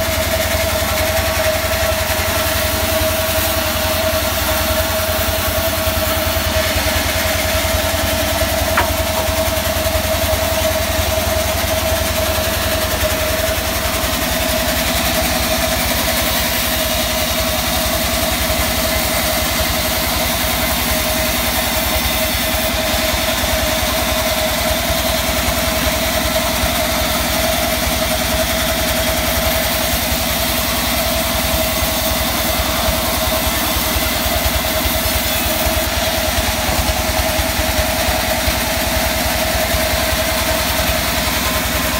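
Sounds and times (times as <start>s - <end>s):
band saw running: 0.0s - 41.9s.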